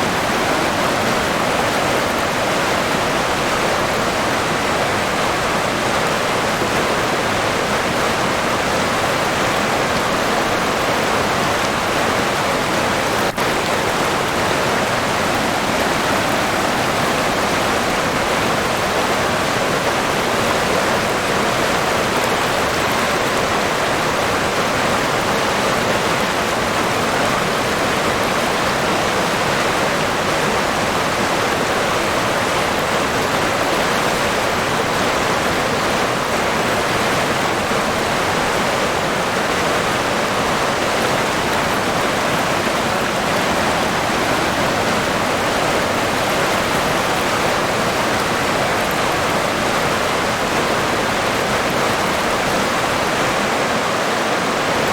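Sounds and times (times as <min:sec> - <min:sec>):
river water flowing: 0:00.0 - 0:54.9.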